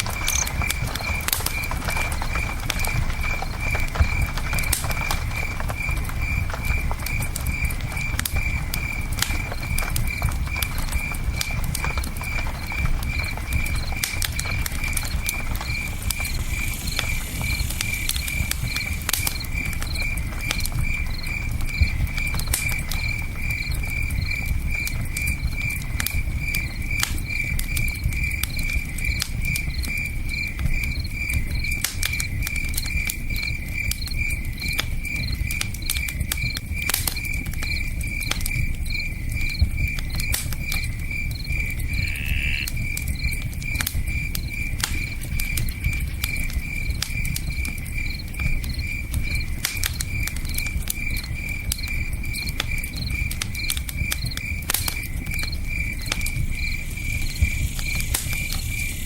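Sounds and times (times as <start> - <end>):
campfire crackling and popping: 0.0 - 59.0
cricket chirping: 0.0 - 59.0.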